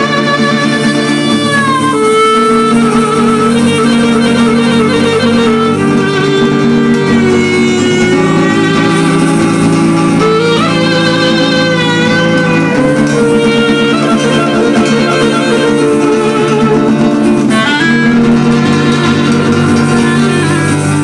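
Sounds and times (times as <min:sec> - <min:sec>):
acoustic guitar accompaniment: 0:00.0 - 0:21.0
clarinet melody: 0:00.0 - 0:21.0
sustained chord tones: 0:00.8 - 0:21.0.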